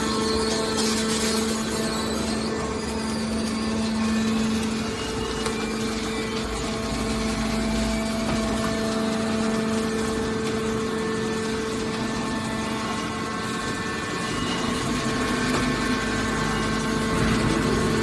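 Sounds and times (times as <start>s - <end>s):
hydraulic baler motor humming: 0.0s - 18.0s.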